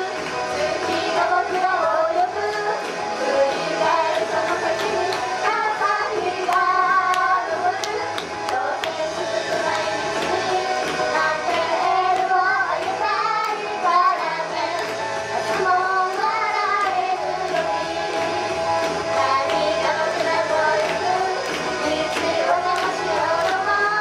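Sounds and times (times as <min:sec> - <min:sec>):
backing track with steady beat: 0:00.0 - 0:24.0
women singing into microphones: 0:00.0 - 0:24.0.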